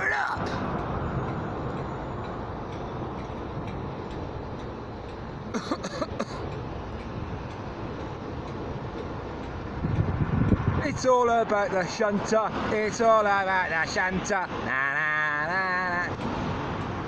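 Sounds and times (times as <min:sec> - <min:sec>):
diesel engine clattering: 0:00.0 - 0:17.0.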